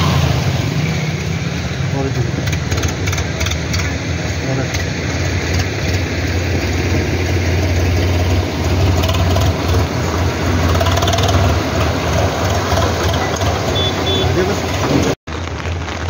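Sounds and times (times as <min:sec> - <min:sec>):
vehicle engine humming: 0:00.0 - 0:15.7
noisy wash: 0:00.0 - 0:16.0.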